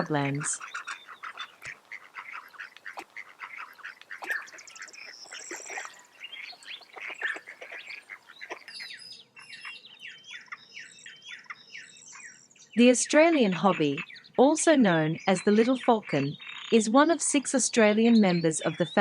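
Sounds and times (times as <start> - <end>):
birds harsh calls: 0.0 - 19.0.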